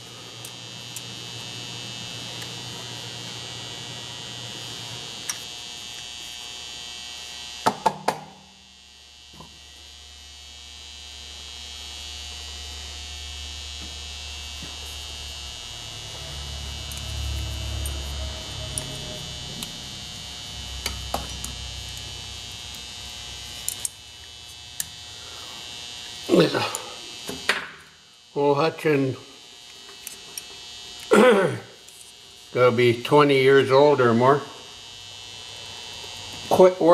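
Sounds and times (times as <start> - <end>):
steady electrical hum: 0.0 - 36.9.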